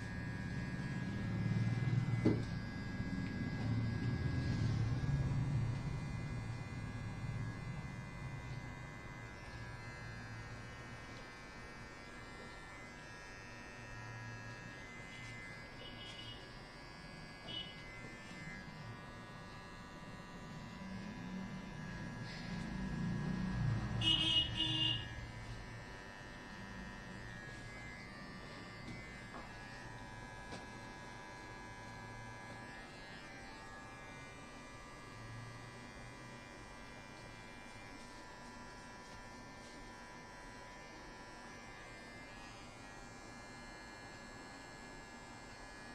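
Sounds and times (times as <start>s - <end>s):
electric hair clipper humming: 0.0s - 45.9s.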